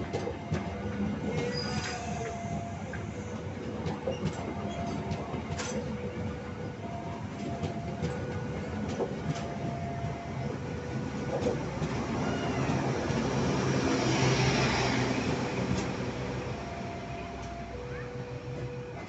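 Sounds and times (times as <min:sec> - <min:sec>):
train wheels rumbling on rails: 0:00.0 - 0:19.0
two-tone level crossing alarm: 0:00.0 - 0:19.0.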